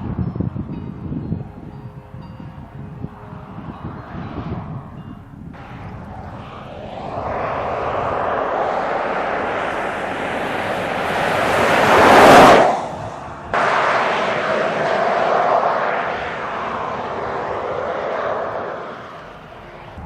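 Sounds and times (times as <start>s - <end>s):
steady driving noise: 0.0s - 20.0s
vehicle driving past: 3.0s - 20.0s.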